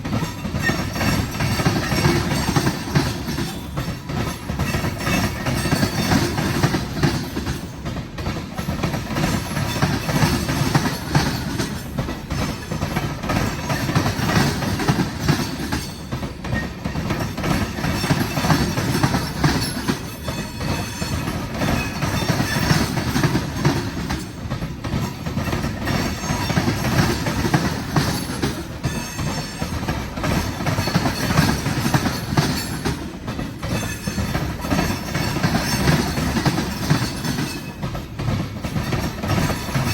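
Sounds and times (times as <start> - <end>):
freight train rolling past: 0.0 - 39.9
steel wheels clattering on rails: 0.0 - 39.9.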